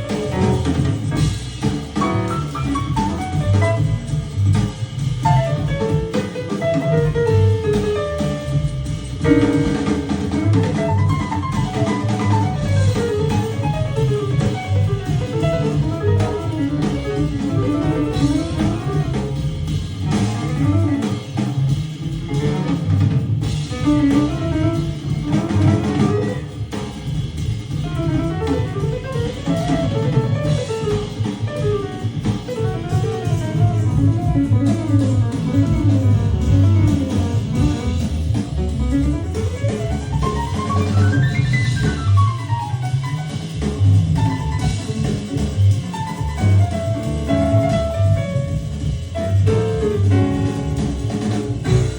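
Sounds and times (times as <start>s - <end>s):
guitar music with drums and bass: 0.0s - 51.9s.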